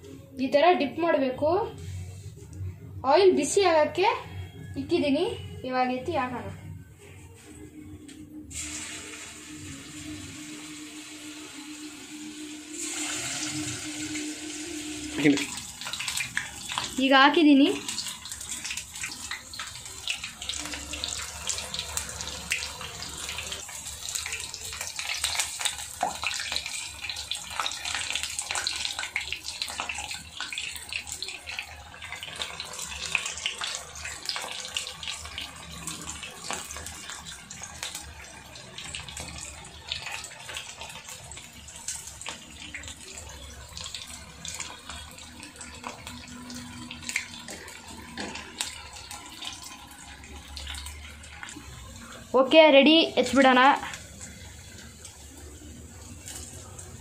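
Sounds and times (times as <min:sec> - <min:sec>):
deep-frying crackling sizzle: 0:07.3 - 0:57.0.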